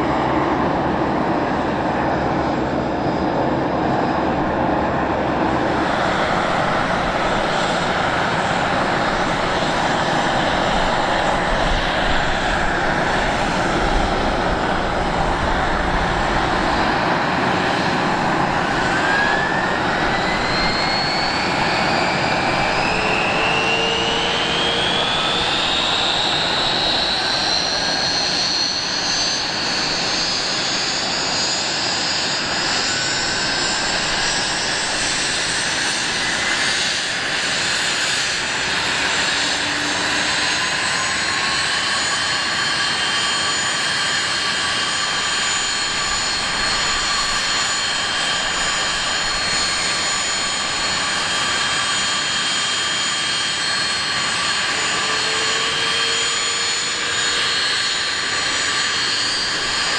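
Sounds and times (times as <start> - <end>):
jet engines whining: 0.0 - 59.9
steady engine rush: 0.0 - 59.9.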